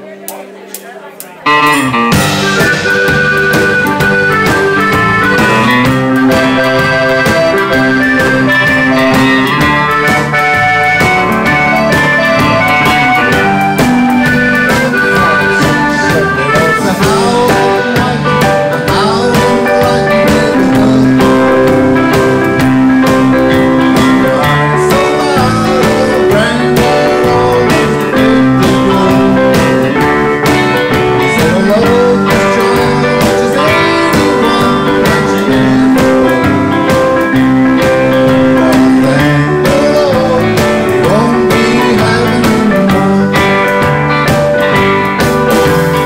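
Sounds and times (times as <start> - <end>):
electric guitar: 0.0 - 46.0
drum kit: 1.3 - 46.0
electric bass: 1.4 - 46.0.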